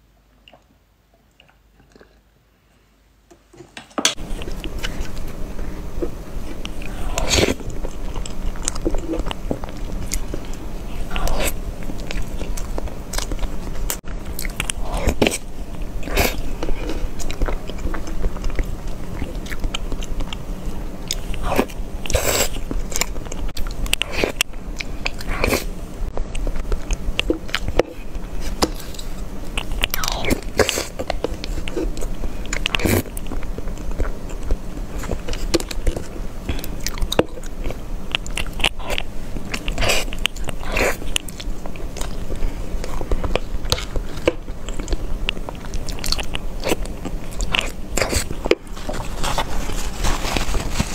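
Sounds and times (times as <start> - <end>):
chewing and wet mouth sounds: 4.2 - 50.9.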